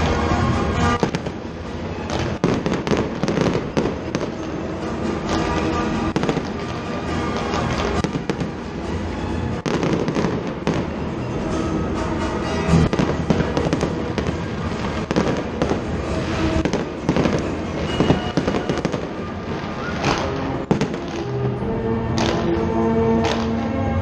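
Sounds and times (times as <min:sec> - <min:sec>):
fireworks bangs and crackling: 0:00.0 - 0:22.6, 0:23.2 - 0:23.6
music playing: 0:00.0 - 0:24.0.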